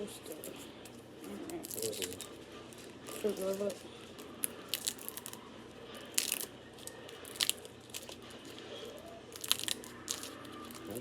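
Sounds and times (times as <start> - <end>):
plastic packaging crinkling and tearing: 0.3 - 11.0.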